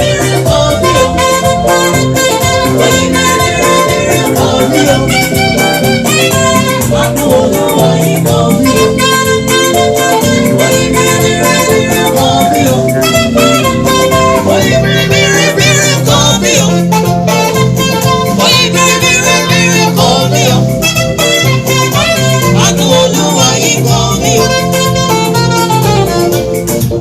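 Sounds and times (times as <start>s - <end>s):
person singing: 0.0s - 25.7s
live band playing gospel music: 0.0s - 27.0s.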